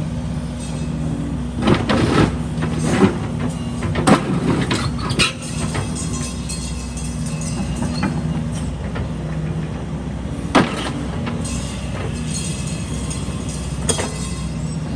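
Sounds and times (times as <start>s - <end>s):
heavy diesel machinery running: 0.0s - 14.9s.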